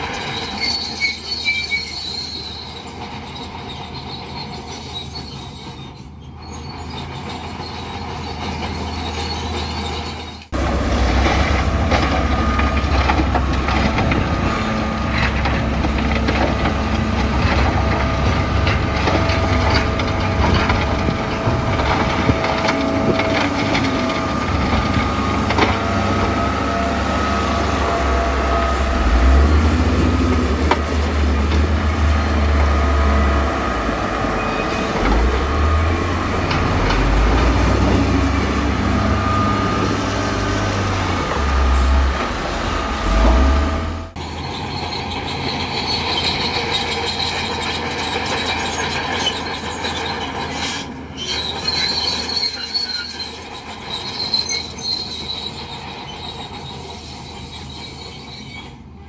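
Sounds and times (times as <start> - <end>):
bulldozer diesel engine under load: 0.0 - 59.0
steel crawler tracks squealing: 0.0 - 59.0.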